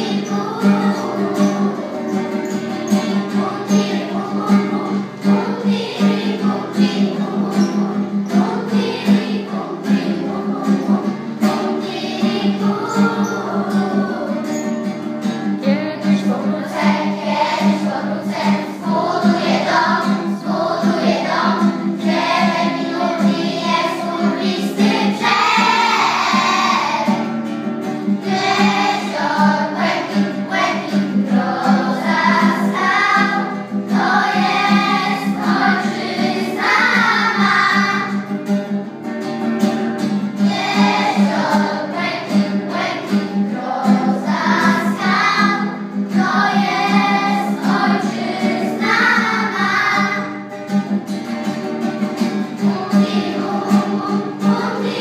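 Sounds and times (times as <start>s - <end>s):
children singing: 0.0s - 55.0s
strummed acoustic guitar: 0.0s - 55.0s.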